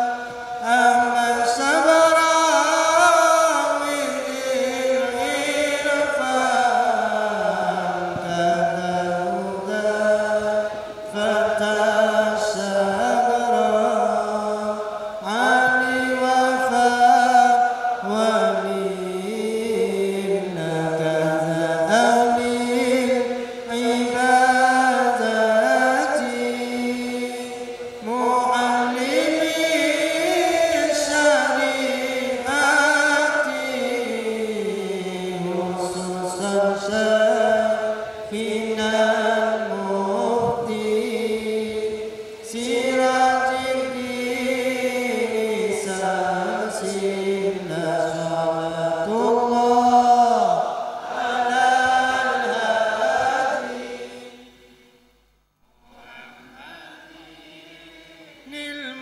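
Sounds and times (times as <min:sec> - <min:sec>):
devotional chanting: 0:00.0 - 0:59.0.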